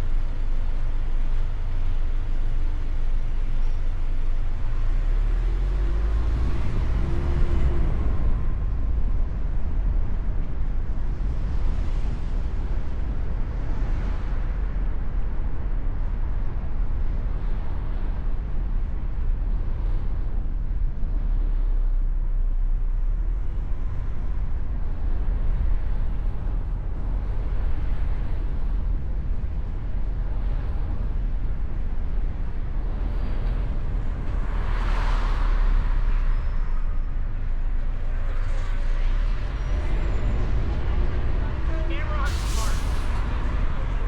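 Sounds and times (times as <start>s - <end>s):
car engine rumble: 0.0s - 44.0s
tyre and wind noise: 0.0s - 44.0s.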